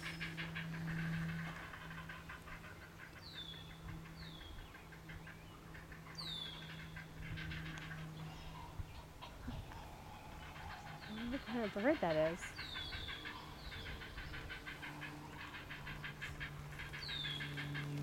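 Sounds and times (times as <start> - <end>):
bird chattering: 0.0 - 9.6, 10.3 - 18.0
steady low hum: 0.0 - 18.0.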